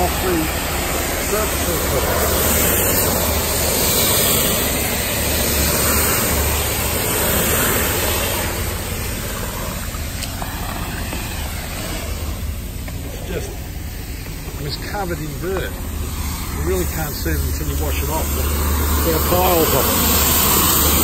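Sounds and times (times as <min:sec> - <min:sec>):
pressure washer spraying concrete: 0:00.0 - 0:21.0.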